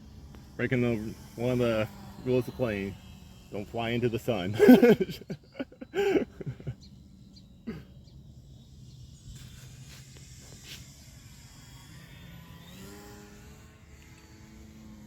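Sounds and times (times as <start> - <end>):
model plane motor drone: 0.0 - 15.0.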